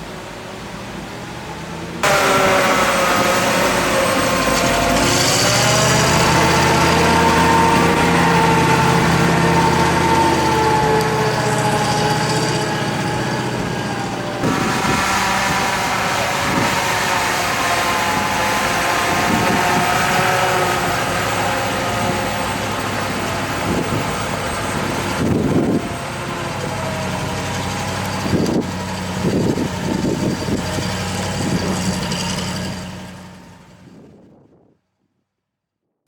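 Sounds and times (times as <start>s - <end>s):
vehicle engine running: 0.0s - 34.2s.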